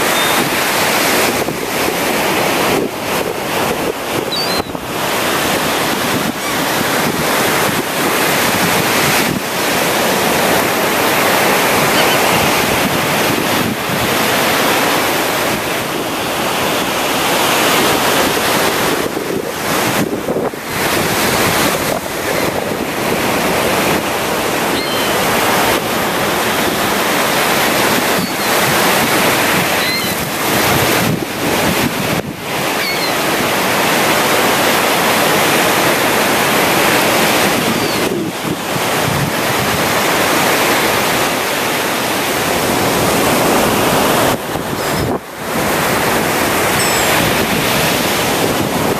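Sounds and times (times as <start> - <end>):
surf breaking on beach: 0.0 - 48.9
wind buffeting microphone: 0.0 - 48.9.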